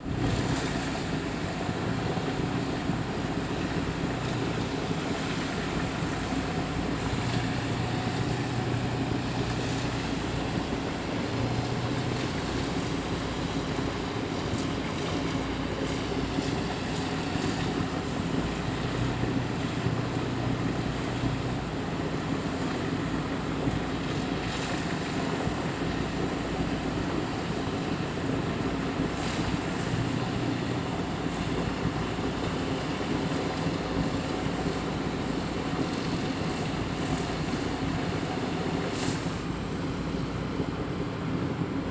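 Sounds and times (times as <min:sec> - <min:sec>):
generator engine droning: 0:00.0 - 0:41.9.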